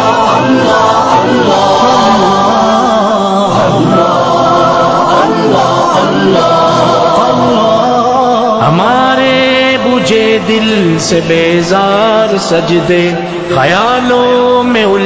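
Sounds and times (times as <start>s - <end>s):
layered voices singing unaccompanied: 0.0s - 15.0s.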